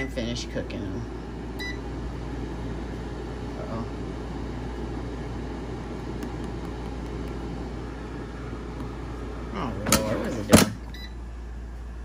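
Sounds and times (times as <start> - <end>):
air fryer fan whirring: 0.0 - 12.0.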